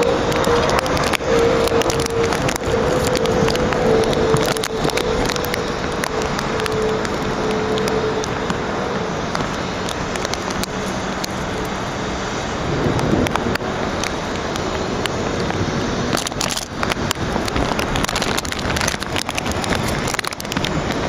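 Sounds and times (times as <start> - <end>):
crackling clicks of raindrops: 0.0 - 21.0
rain and wind rushing: 0.0 - 21.0.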